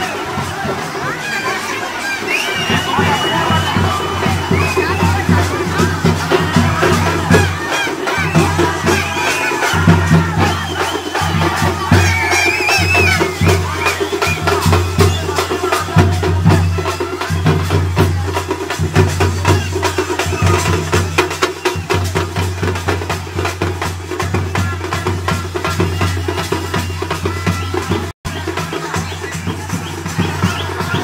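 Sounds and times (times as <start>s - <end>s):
fast drumming: 0.0s - 31.0s
large crowd noise: 0.0s - 31.0s.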